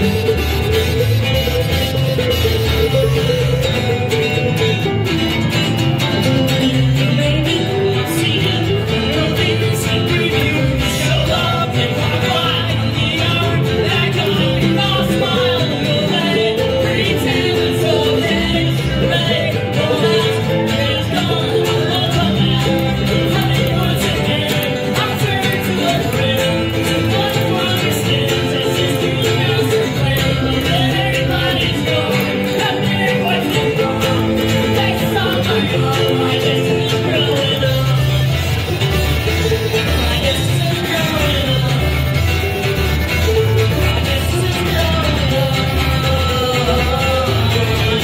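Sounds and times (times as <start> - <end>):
acoustic guitar strumming: 0.0 - 48.0
man singing: 0.0 - 48.0
mandolin: 0.0 - 48.0
plucked upright bass: 0.0 - 48.0.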